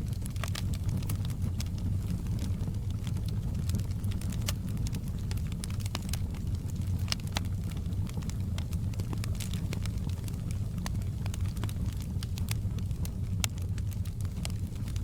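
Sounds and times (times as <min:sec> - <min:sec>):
pops and snaps of fire: 0:00.0 - 0:15.0
wood fire crackling: 0:00.0 - 0:15.0.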